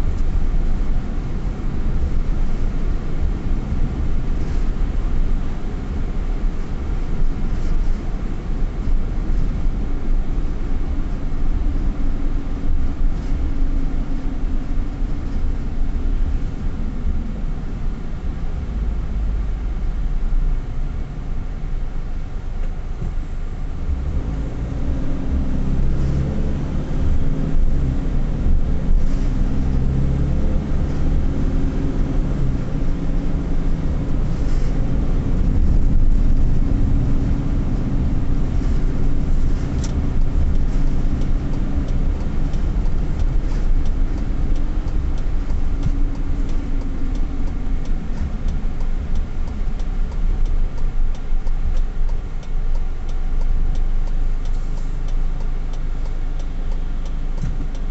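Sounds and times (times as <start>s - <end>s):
car engine accelerating: 0.0s - 57.9s
road rumble: 0.0s - 57.9s.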